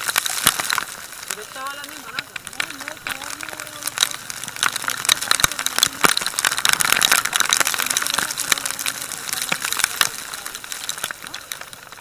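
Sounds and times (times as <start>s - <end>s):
rain ticking on microphone: 0.0s - 12.0s
wet road spray: 0.0s - 12.0s.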